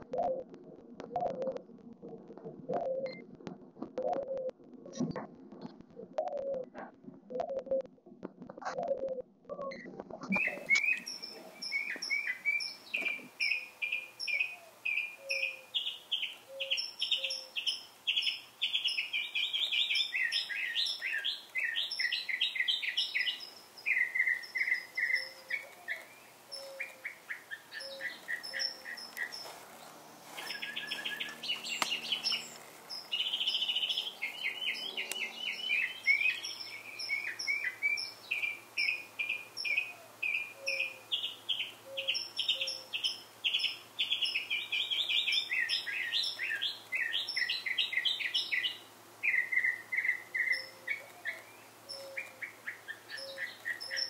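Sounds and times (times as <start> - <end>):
songbirds chirping and trilling: 8.6 - 54.0.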